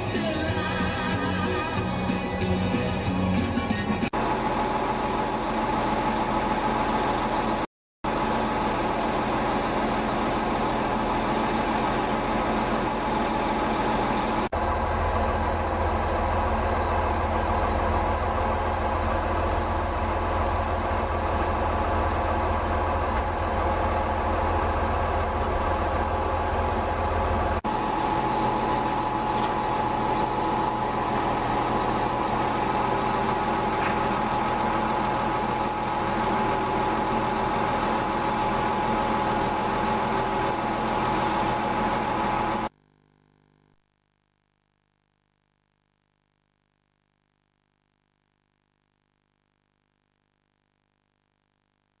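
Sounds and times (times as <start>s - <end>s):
bulldozer diesel engine running: 0.0s - 42.7s.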